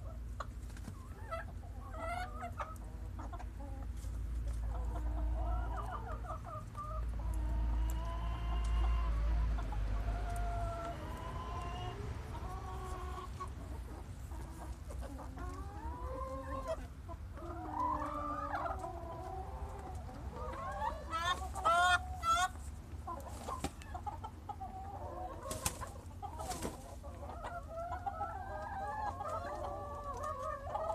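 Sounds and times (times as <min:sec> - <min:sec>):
hens clucking: 0:00.0 - 0:30.9.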